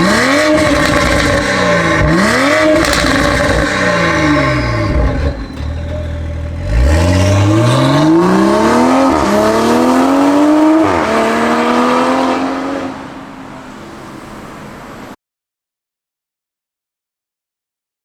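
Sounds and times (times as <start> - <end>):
car exhaust accelerating: 0.0 - 15.0.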